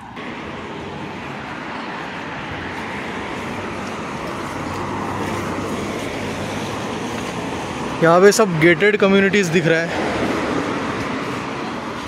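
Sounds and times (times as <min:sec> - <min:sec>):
cars passing by: 0:00.0 - 0:12.0.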